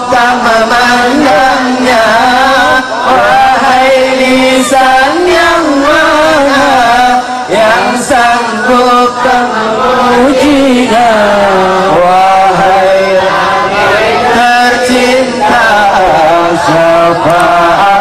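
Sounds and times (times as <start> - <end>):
person singing long notes: 0.0 - 18.0.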